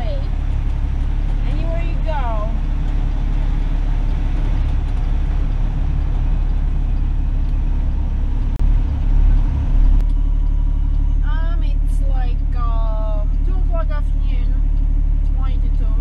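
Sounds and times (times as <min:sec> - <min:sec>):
diesel truck engine droning: 0:00.0 - 0:16.0
heavy low thumps: 0:00.0 - 0:16.0.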